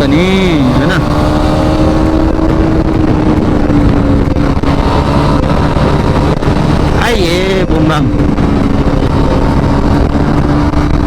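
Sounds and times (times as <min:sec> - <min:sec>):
motorcycle engine cruising: 0:00.0 - 0:11.0
rushing wind and road noise: 0:00.0 - 0:11.0.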